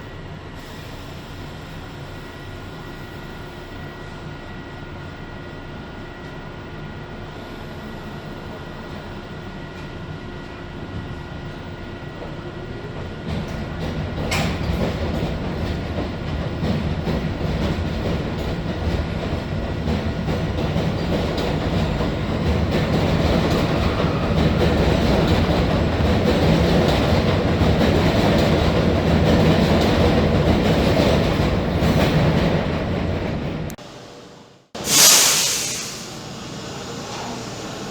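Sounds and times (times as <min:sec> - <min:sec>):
subway train rumbling on rails: 0:00.0 - 0:37.9.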